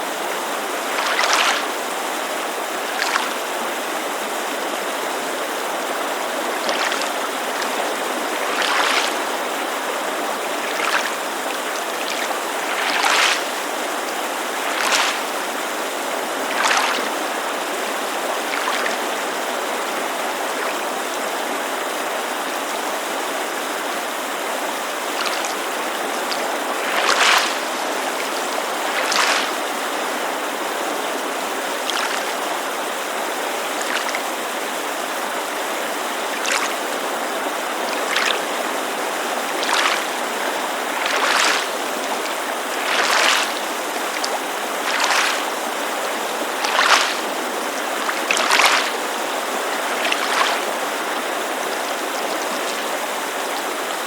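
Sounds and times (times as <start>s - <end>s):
creek rushing: 0.0s - 54.0s
small waves lapping on shore: 0.0s - 54.0s.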